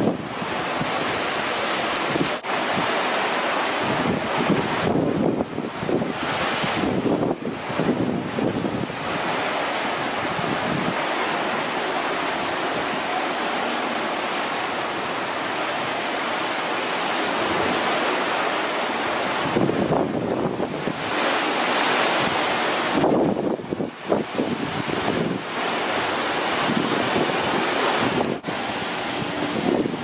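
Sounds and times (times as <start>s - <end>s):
surf breaking on rocks: 0.0s - 30.0s
wind buffeting microphone: 0.0s - 30.0s.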